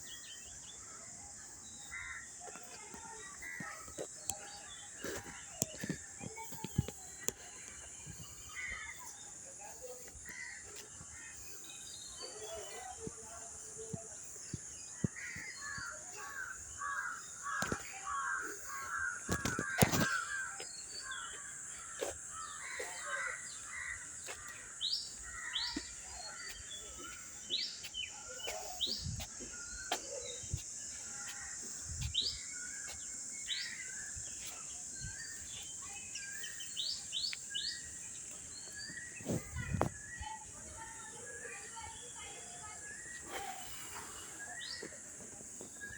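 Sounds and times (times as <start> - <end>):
birds calling harshly: 1.7 - 45.9.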